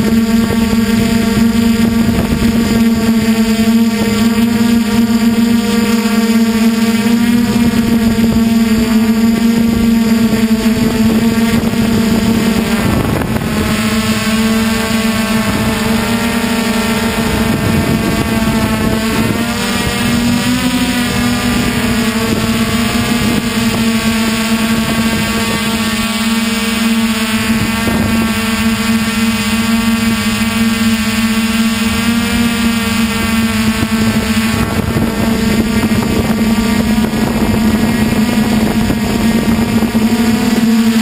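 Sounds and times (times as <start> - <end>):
quadcopter motors humming: 0.0 - 41.0.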